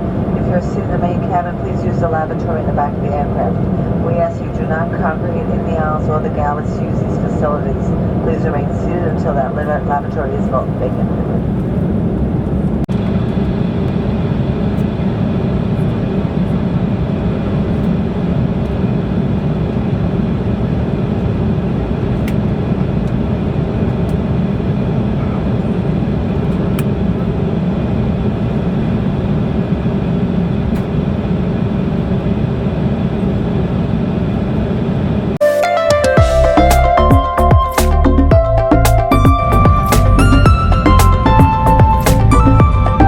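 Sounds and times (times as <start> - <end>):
airliner cabin engine drone: 0.0 - 35.4, 36.2 - 43.0
faint steady hum: 0.0 - 35.4.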